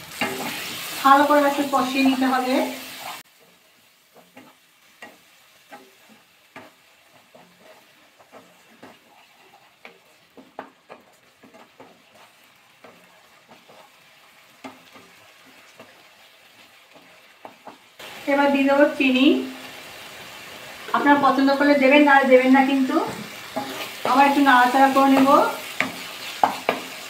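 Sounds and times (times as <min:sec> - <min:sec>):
wooden spatula scraping a pan: 0:00.0 - 0:17.9, 0:22.5 - 0:27.0
faint sizzle: 0:00.0 - 0:27.0.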